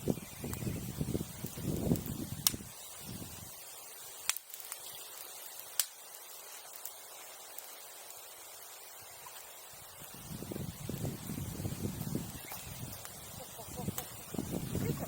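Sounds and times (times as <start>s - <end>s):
bonfire burning: 0.0s - 15.0s
burning wood popping: 0.0s - 15.0s.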